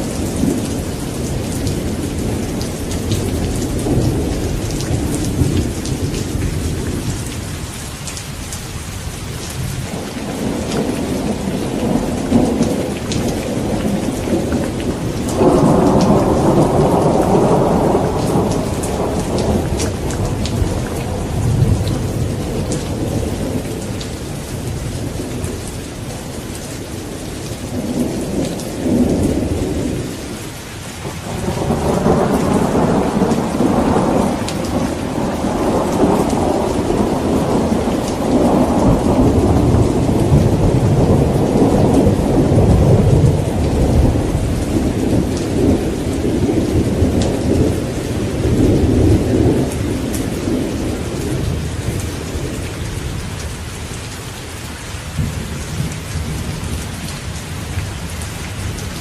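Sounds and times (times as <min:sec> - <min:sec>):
rolling thunder: 0:00.0 - 0:07.7, 0:09.4 - 0:30.4, 0:31.0 - 0:53.8
steady rain falling: 0:00.0 - 0:59.0.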